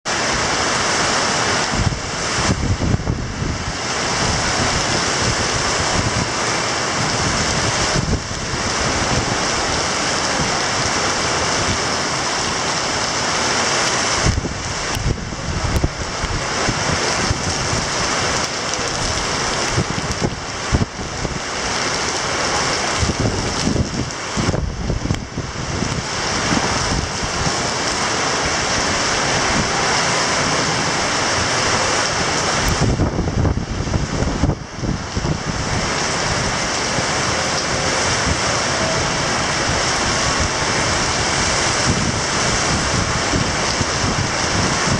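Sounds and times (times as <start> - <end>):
driving rain hiss: 0.1 - 44.9
strong wind rushing: 0.1 - 44.9
wind buffeting microphone: 1.5 - 12.0, 13.9 - 44.9.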